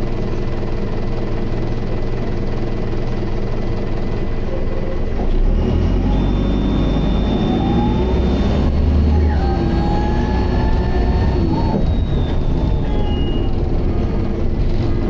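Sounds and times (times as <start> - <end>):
bus engine with rising whine: 0.0 - 15.0.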